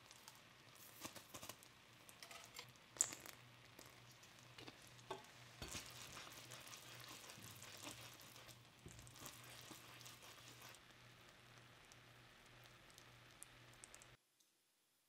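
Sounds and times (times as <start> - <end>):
sauce sizzling and bubbling: 0.0 - 14.2.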